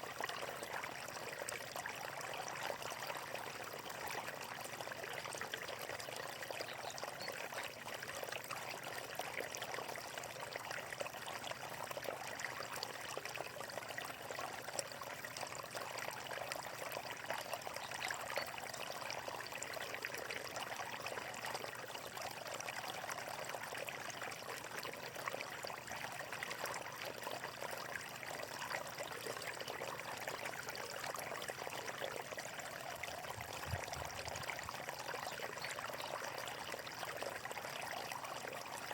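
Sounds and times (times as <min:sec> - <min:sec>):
stream water bubbling and splashing: 0:00.0 - 0:38.9.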